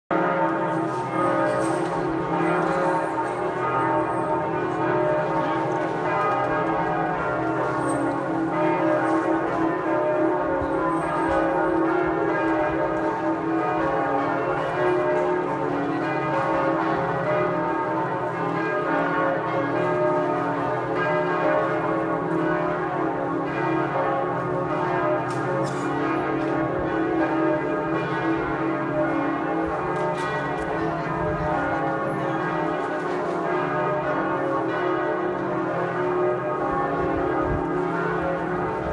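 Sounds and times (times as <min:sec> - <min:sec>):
church bells pealing: 0:00.1 - 0:38.9.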